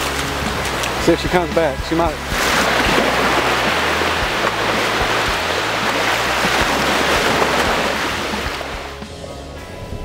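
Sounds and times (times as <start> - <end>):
surf breaking and receding: 0.0 - 9.0.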